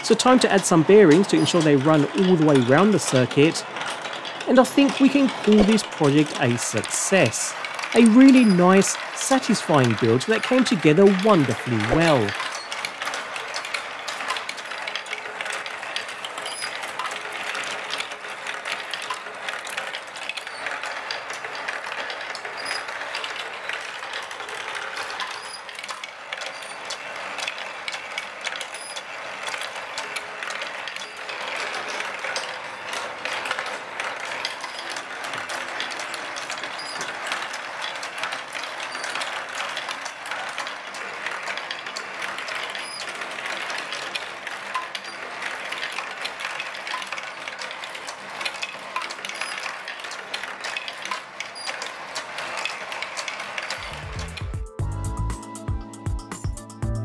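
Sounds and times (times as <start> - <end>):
ball bearings rolling on plastic tracks: 0.0 - 56.6
marble machine clattering: 0.0 - 57.0.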